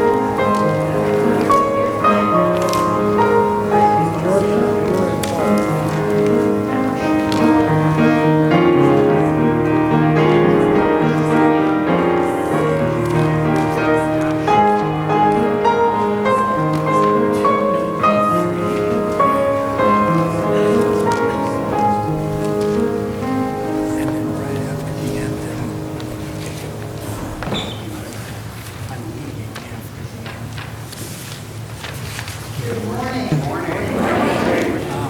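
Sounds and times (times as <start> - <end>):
slow keyboard music: 0.0 - 28.2.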